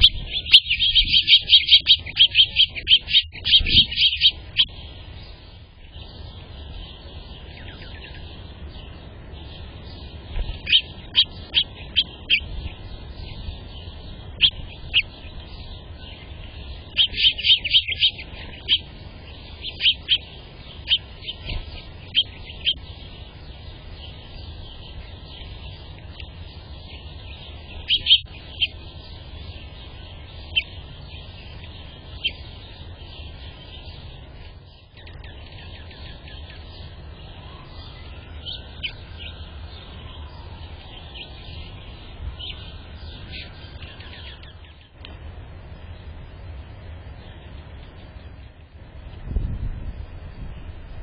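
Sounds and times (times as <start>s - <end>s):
songbirds chirping: 0.0s - 51.0s
steady low hum: 0.0s - 51.0s.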